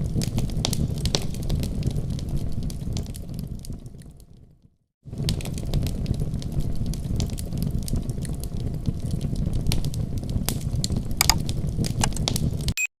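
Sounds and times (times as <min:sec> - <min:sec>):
fire low rumble: 0:00.0 - 0:12.7
fire crackling and popping: 0:00.0 - 0:12.8.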